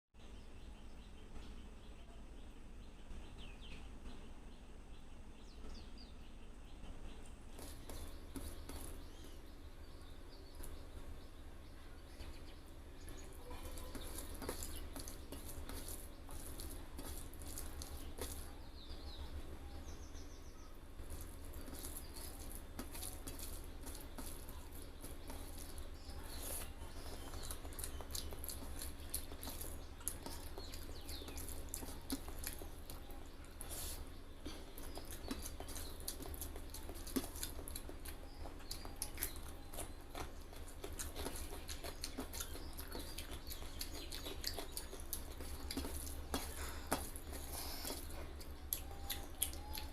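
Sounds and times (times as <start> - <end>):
steady low hum: 0.2 - 49.9
wet chewing and smacking: 7.6 - 19.7, 20.8 - 49.9.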